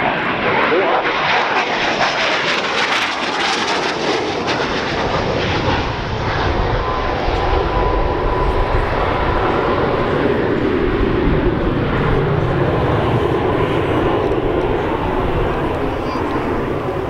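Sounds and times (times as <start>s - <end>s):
jet engine passing overhead: 0.0s - 17.0s.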